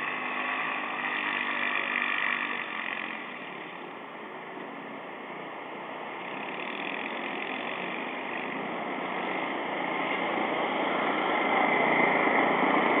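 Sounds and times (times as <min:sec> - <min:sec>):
vehicle engine hissing hum: 0:00.0 - 0:13.0.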